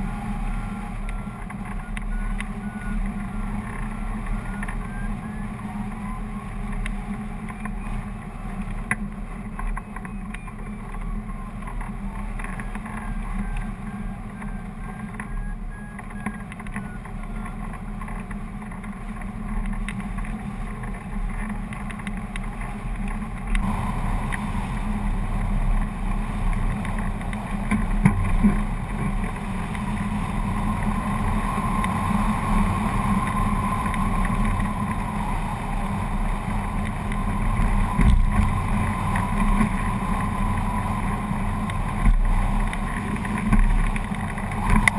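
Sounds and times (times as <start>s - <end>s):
deep rumble: 0.0s - 44.9s.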